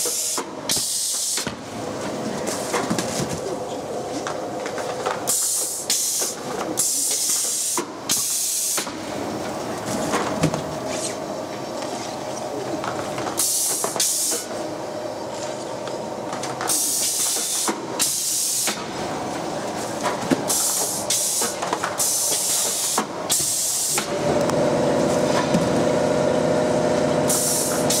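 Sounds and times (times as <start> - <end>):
steady machine hum: 1.4 - 28.0.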